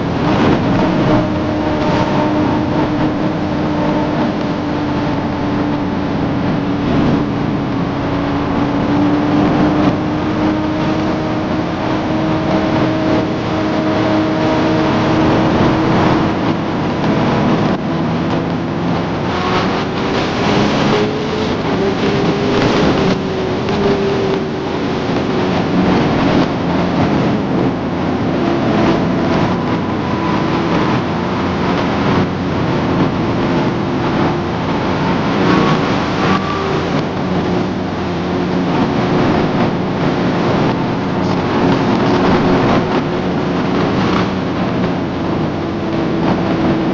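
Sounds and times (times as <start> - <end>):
motorcycle engine cruising: 0.0 - 46.9
wind rush over microphone: 0.0 - 46.9.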